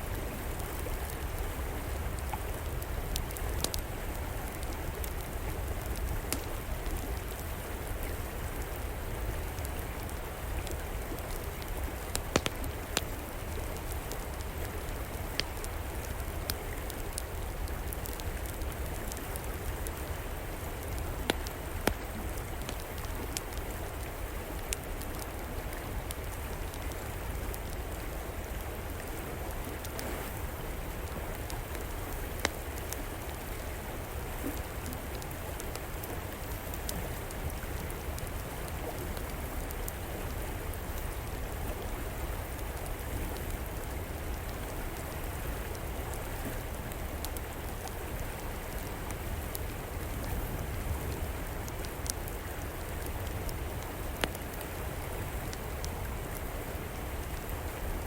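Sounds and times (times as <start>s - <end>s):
river water flowing: 0.0s - 58.0s
wood fire crackling: 0.0s - 58.0s.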